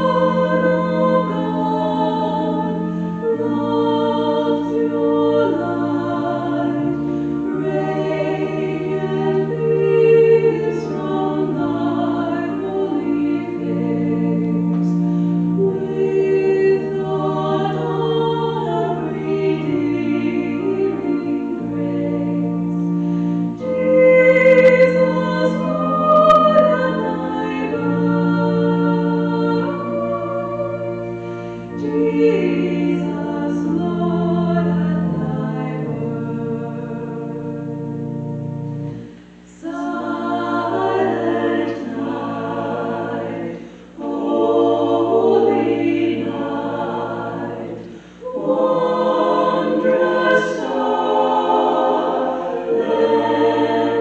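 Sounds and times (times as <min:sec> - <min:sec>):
choir singing a hymn: 0:00.0 - 0:54.0
sustained low accompanying notes: 0:00.0 - 0:54.0.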